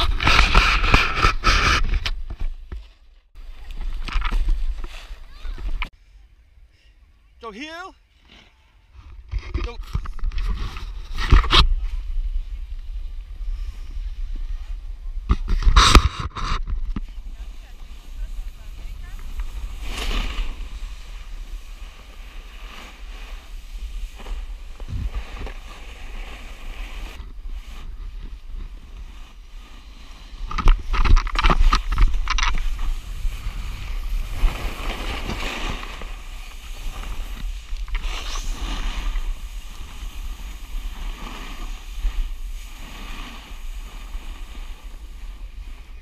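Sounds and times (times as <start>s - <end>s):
wind on microphone: 0.0s - 2.4s, 9.2s - 46.0s
snowboards scraping on snow: 0.0s - 5.8s, 10.4s - 46.0s.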